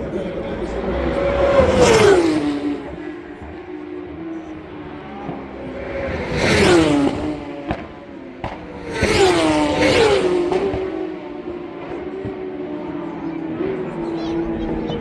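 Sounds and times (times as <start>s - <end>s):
motorcycles racing past: 0.0s - 15.0s.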